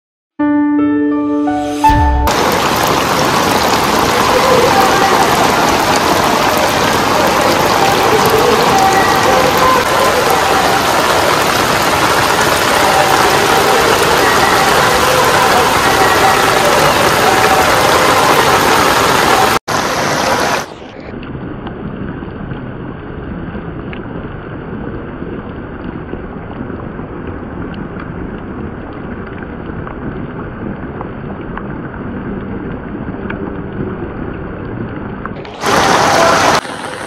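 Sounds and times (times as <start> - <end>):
heavy rain on stone paving: 1.9 - 37.0.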